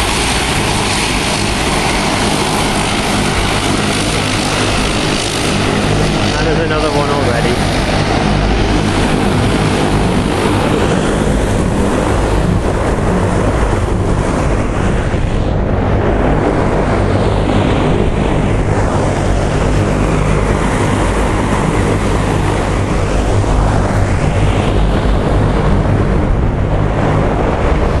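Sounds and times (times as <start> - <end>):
constant low hum: 0.0 - 28.0
wind buffeting microphone: 0.0 - 28.0.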